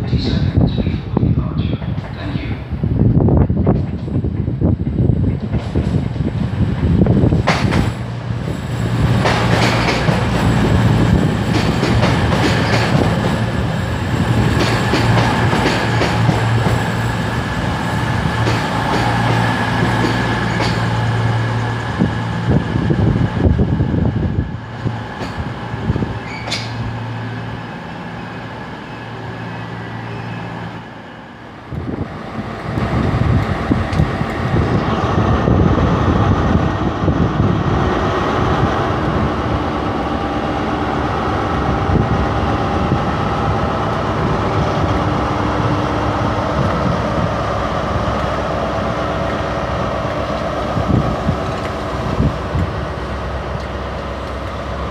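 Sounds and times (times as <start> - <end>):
train engine drone: 0.0 - 54.9.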